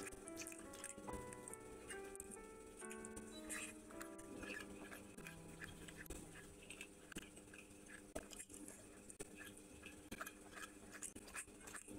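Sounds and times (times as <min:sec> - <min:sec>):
faint wet chewing: 0:00.0 - 0:11.9.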